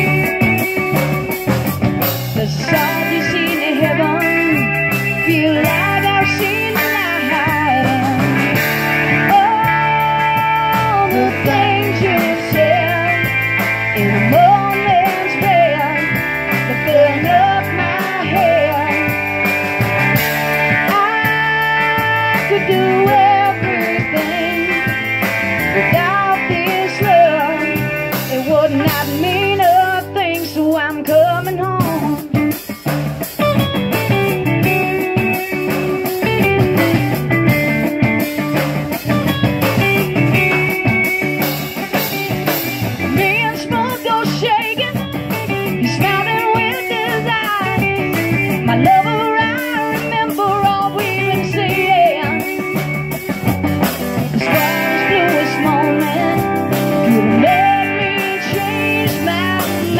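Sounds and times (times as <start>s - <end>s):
bending electric guitar lead: 0.0s - 59.9s
blues-rock band playing: 0.0s - 59.9s.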